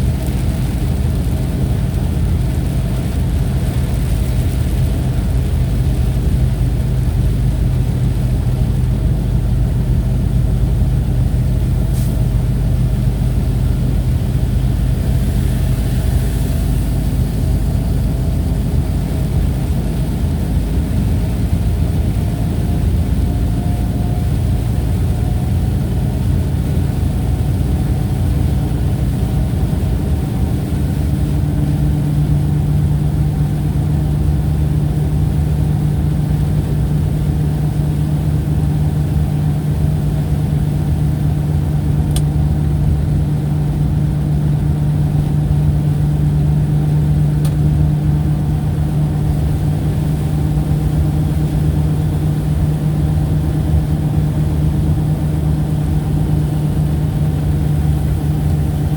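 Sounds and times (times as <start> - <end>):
low engine-like drone: 0.0 - 58.9.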